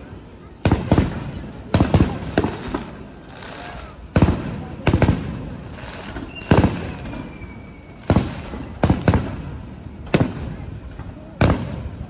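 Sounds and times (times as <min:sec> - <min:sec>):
fireworks booming: 0:00.5 - 0:12.0.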